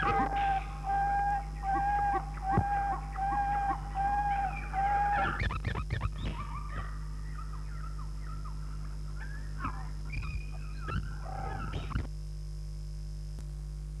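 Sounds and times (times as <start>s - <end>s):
high wavering whines and yelps: 0.0s - 12.1s
low electrical hum: 0.0s - 14.0s.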